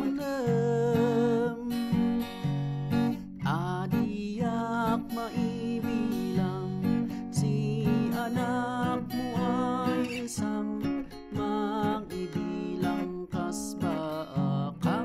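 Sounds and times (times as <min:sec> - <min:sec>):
man singing: 0:00.0 - 0:02.2, 0:03.4 - 0:15.0
acoustic guitar strumming: 0:00.0 - 0:15.0.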